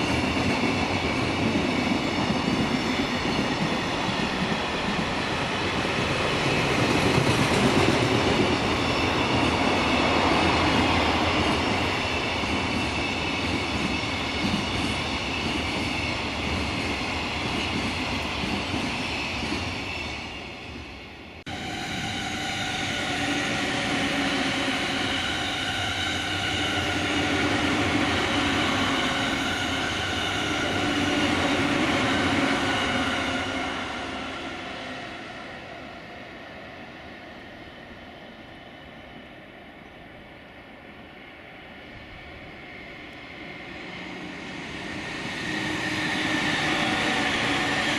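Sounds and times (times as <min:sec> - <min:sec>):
electric train passing on rails: 0:00.0 - 0:47.9
steady train tones: 0:00.0 - 0:47.9.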